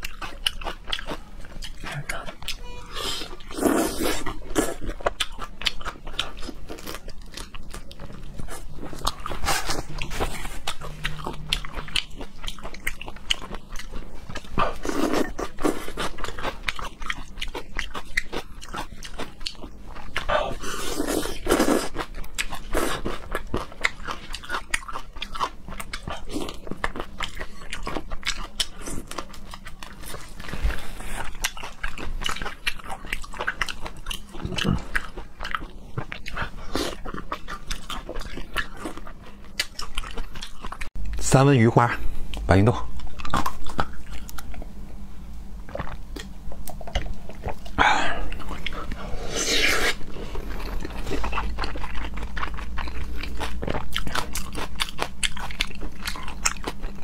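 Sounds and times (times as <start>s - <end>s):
chewing and crunching shrimp: 0.0s - 41.4s, 42.3s - 57.0s.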